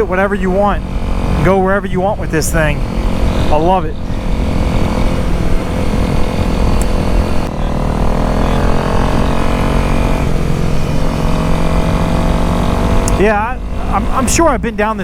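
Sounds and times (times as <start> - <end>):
motorcycle engine accelerating: 0.0 - 15.0
wind rushing over microphone: 0.0 - 15.0.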